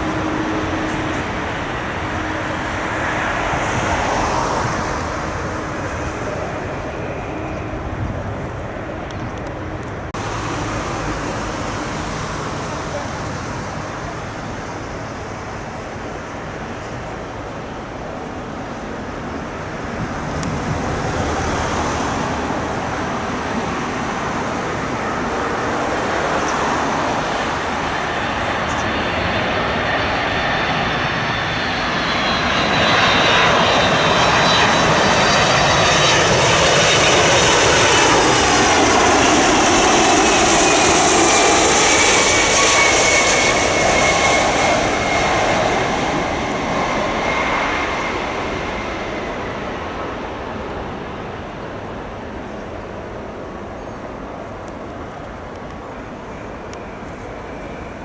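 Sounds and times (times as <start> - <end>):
jet airliner engine roar: 0.0 - 58.0
jet engine whine: 0.0 - 58.0.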